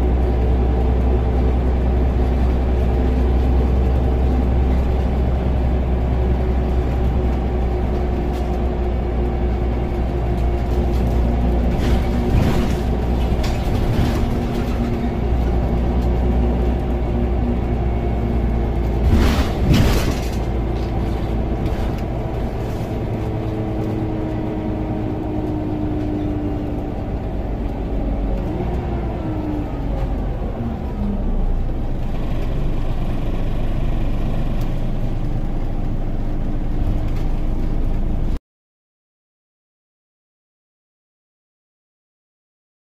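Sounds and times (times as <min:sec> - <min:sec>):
bus engine and road rumble: 0:00.0 - 0:38.4.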